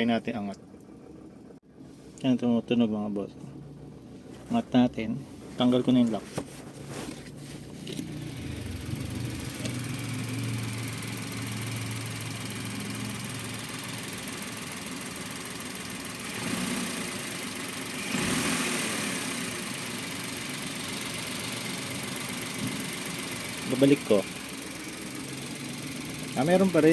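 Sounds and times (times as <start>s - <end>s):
engine rattle: 0.0s - 26.9s
small engine idling: 0.0s - 26.9s.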